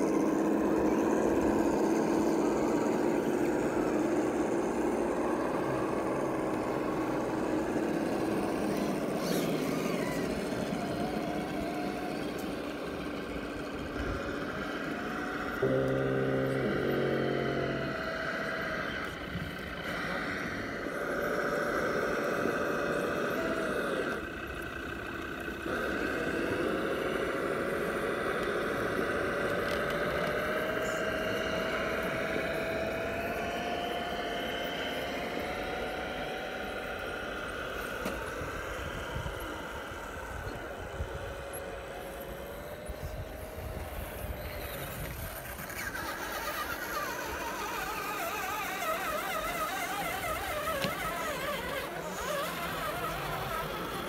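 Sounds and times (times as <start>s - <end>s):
toy truck electric motor whine: 0.0s - 54.0s.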